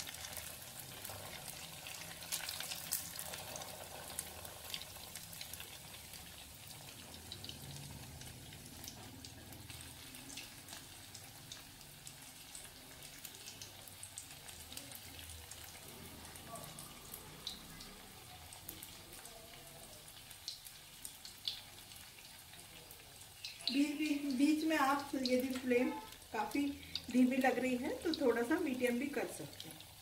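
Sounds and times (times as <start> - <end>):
bread deep-frying in hot oil: 0.0 - 30.0.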